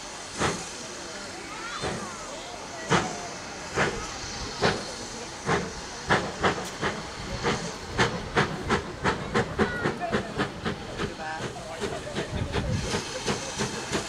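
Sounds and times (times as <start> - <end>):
steam locomotive exhaust beats: 0.0 - 14.0.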